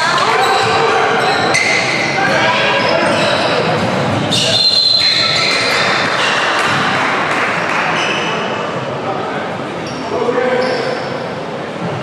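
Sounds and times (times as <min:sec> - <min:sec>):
crowd chatter in a gymnasium: 0:00.0 - 0:12.0.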